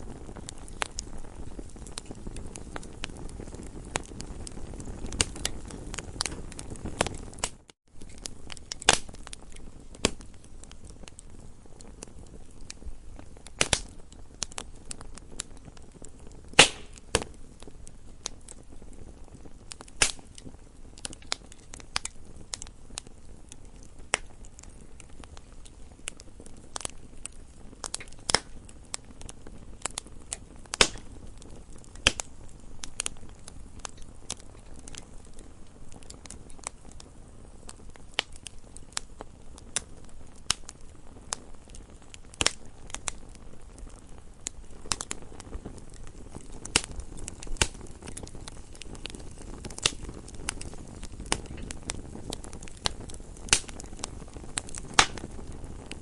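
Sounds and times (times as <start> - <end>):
campfire crackling and popping: 0.0 - 56.0
low steady fire hiss: 0.0 - 56.0.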